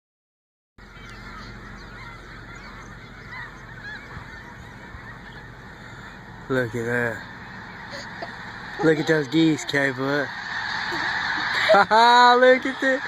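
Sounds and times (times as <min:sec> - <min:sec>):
geese honking: 0:00.8 - 0:13.0.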